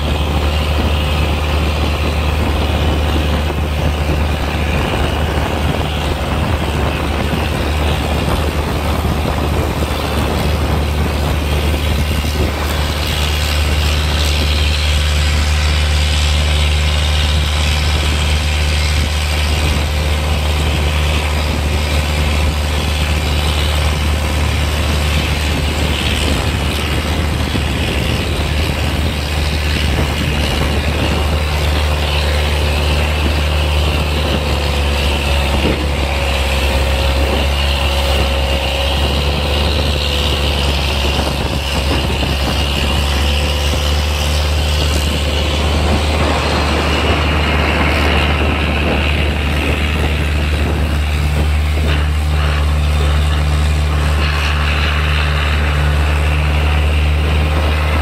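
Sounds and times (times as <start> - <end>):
boat engine droning: 0.0 - 58.0
water rushing past hull: 0.0 - 58.0.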